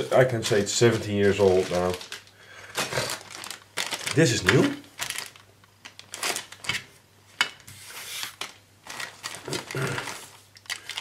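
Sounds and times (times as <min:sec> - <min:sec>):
plastic rustling: 0:00.0 - 0:11.0.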